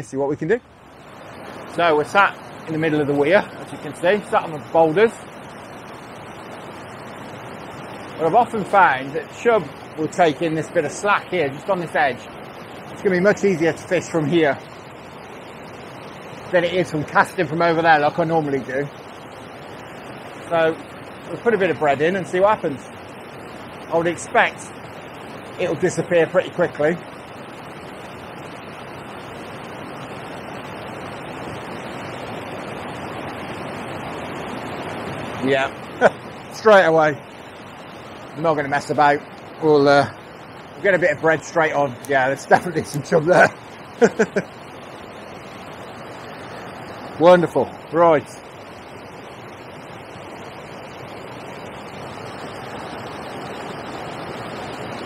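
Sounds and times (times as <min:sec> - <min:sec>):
water rushing over a weir: 0:00.0 - 0:55.0.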